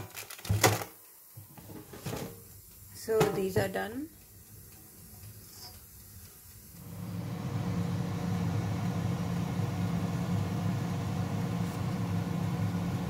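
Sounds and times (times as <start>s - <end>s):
low mechanical hum: 1.1s - 13.0s.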